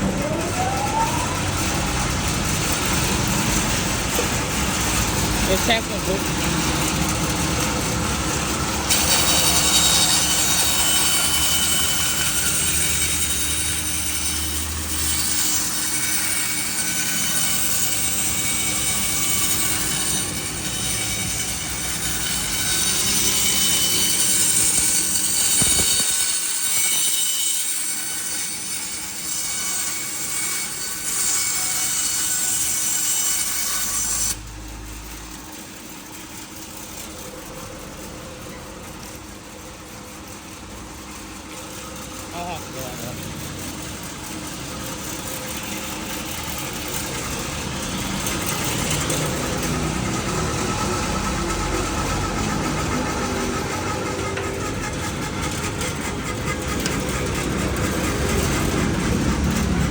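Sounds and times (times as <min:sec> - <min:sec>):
band saw cutting wood: 0:00.0 - 0:59.9
saw running free hum: 0:00.0 - 0:59.9.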